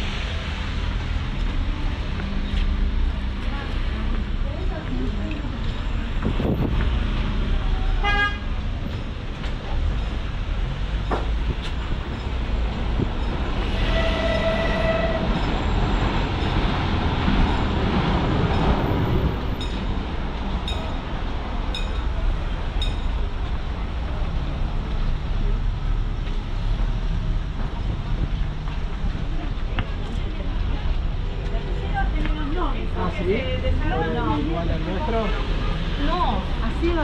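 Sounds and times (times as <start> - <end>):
passing vehicle rumble: 0.0 - 37.0.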